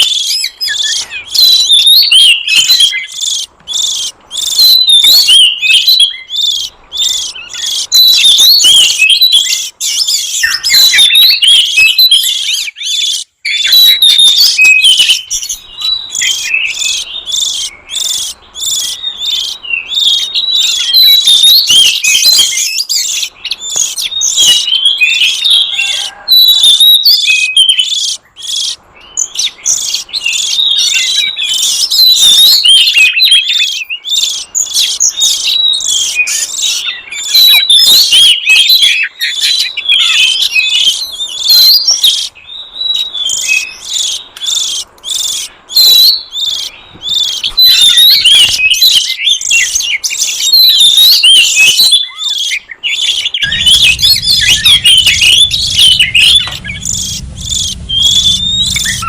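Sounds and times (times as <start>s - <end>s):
songbird whistling and chirping: 0.0s - 59.0s.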